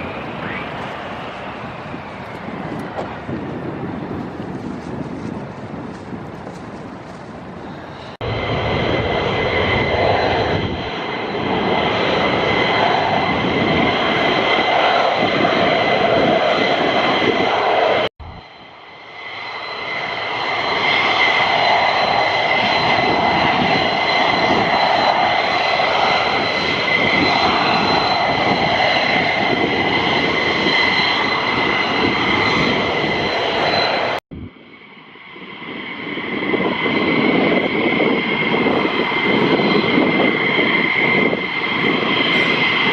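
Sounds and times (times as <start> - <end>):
jet engines roaring with whine: 0.0 - 42.9.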